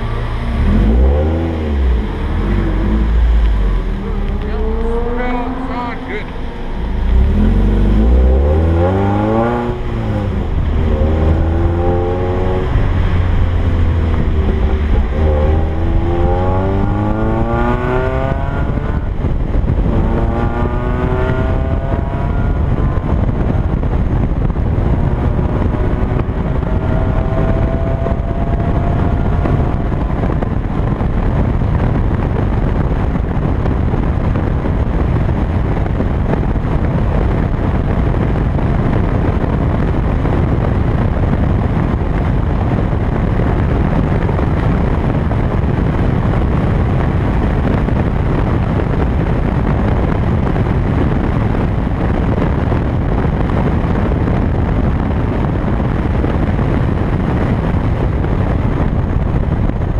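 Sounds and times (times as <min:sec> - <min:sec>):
car engine accelerating: 0:00.0 - 0:59.9
wind and road rush: 0:00.0 - 0:59.9.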